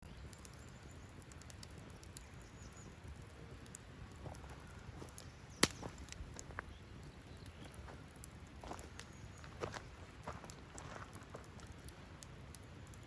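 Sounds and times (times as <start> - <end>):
campfire crackling and popping: 0.0 - 13.0
rustle of flames: 0.0 - 13.0
small birds chirping: 0.0 - 13.0.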